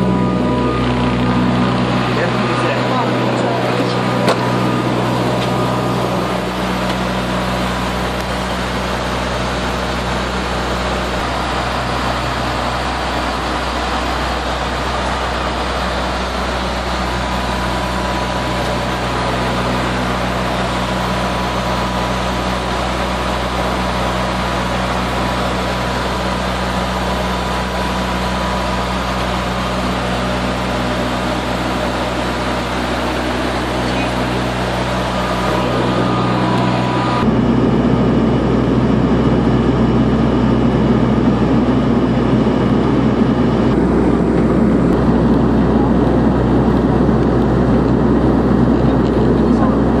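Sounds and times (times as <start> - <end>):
thin high whine: 0.0 - 23.0, 28.7 - 48.5
turboprop engines droning: 0.0 - 50.0.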